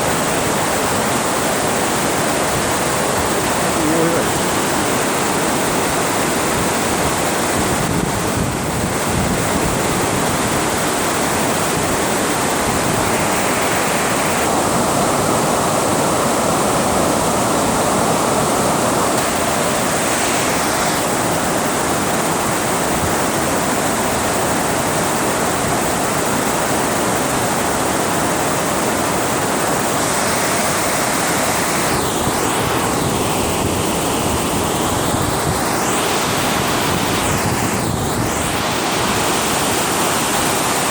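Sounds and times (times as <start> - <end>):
water rushing over a dam: 0.0 - 40.9.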